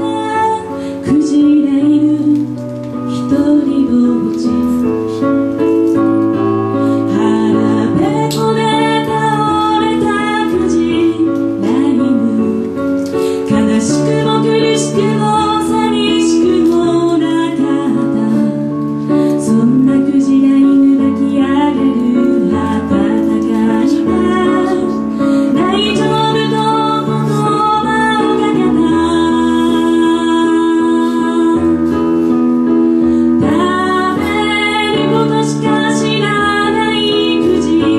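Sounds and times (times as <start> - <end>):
woman singing: 0.0 - 5.3, 6.0 - 37.9.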